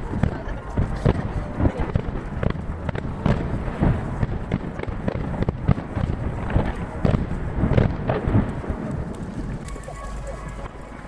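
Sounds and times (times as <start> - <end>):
firework bursts with echo: 0.0 - 11.0.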